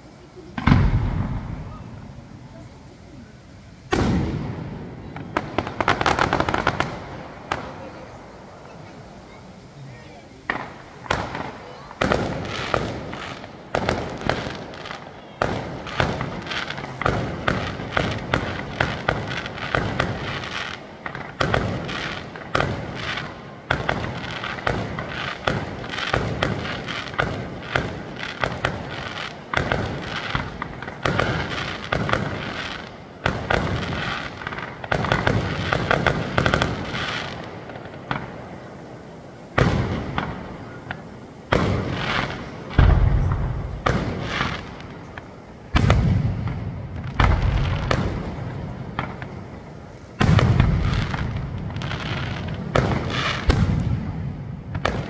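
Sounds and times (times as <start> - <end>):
deep fireworks booms: 0.0 - 55.0.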